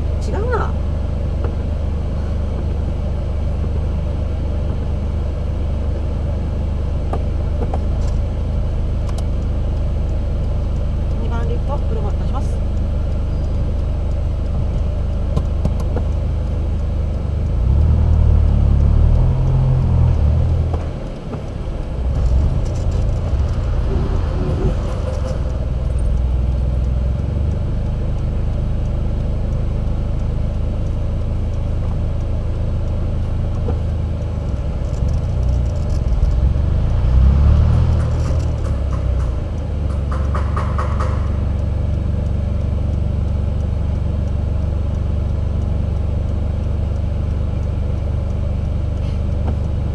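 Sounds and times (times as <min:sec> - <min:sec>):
car engine low rumble: 0:00.0 - 0:49.9.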